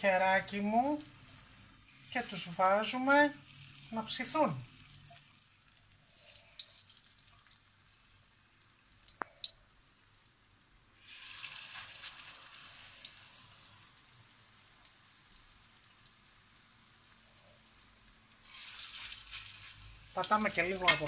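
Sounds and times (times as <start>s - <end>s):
fritters sizzling in hot oil: 0.0s - 21.0s.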